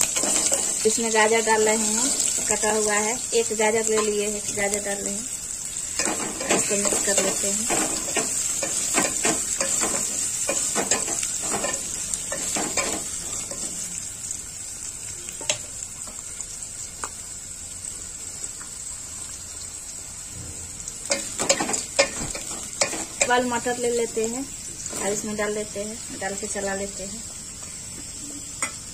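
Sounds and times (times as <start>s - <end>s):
food sizzling in hot oil: 0.0s - 28.9s.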